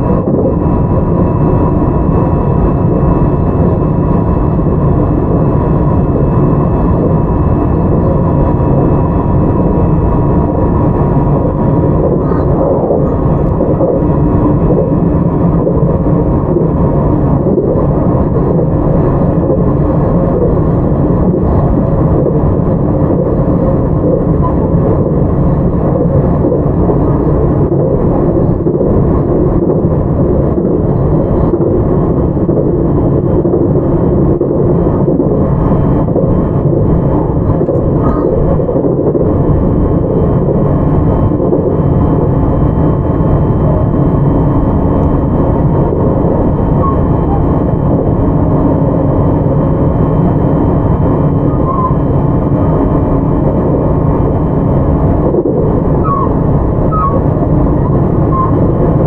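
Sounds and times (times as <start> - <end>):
faint high whine: 0.0 - 59.0.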